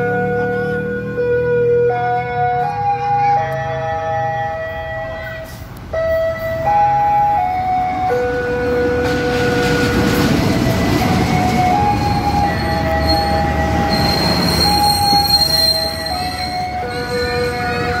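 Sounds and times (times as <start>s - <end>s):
slow melody of long tones: 0.0s - 18.0s
train rumble: 2.6s - 18.0s.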